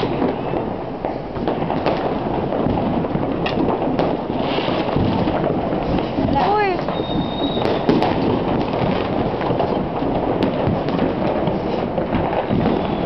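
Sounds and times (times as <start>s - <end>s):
distant fireworks bangs and crackling: 0.0s - 13.0s
sharp firework reports: 0.0s - 13.0s.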